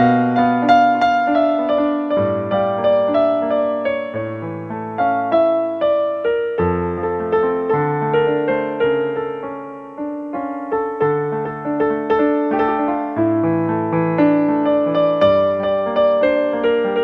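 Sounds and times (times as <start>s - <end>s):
keyboard piano melody: 0.0s - 17.0s.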